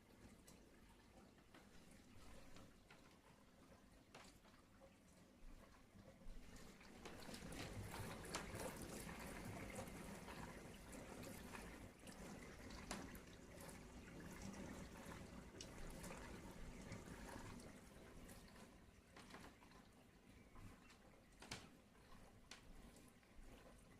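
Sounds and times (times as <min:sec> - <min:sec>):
water splashing in dishwasher: 0:00.2 - 0:23.9.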